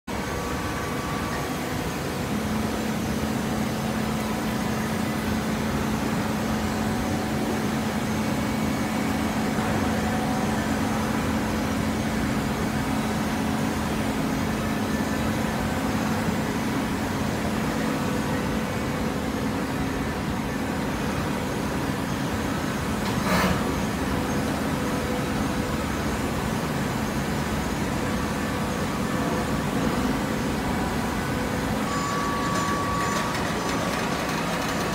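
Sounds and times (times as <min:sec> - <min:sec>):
baler machine hum: 0:00.1 - 0:34.9.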